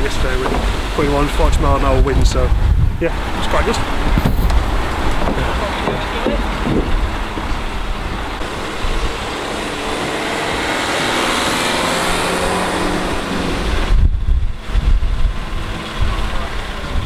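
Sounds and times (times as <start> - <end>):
engine running steadily: 0.0 - 17.0
wind buffeting microphone: 0.0 - 17.0.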